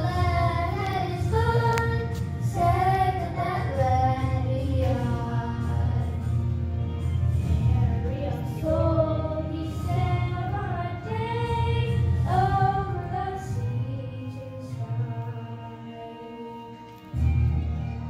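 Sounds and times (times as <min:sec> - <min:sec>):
children's choir singing: 0:00.0 - 0:06.6, 0:07.5 - 0:16.9.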